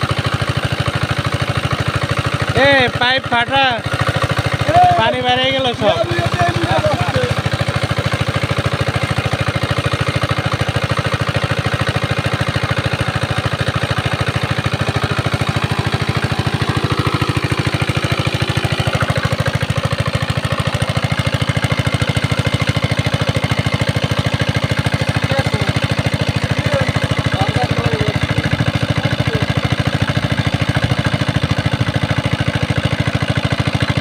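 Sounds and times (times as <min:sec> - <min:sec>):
diesel water pump engine running: 0:00.0 - 0:34.0.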